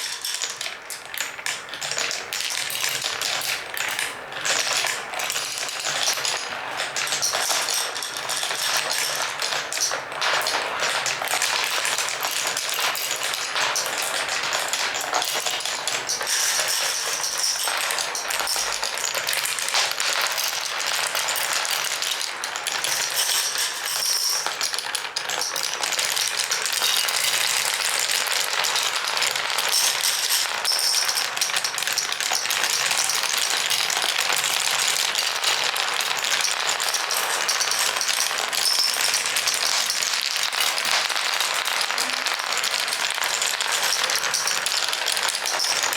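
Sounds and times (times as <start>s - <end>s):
glass marbles rolling and clicking: 0.0s - 45.9s.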